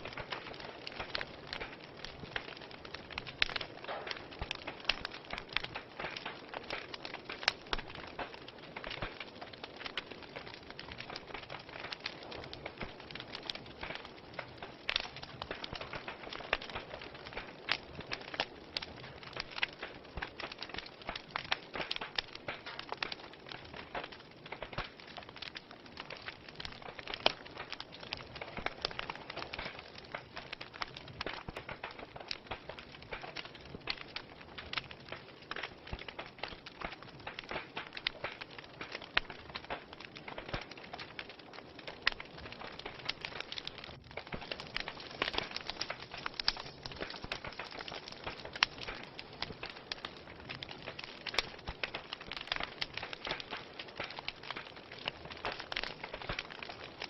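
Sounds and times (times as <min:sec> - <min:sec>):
fire snaps and pops: 0:00.0 - 0:57.0
wood fire burning: 0:00.0 - 0:57.0.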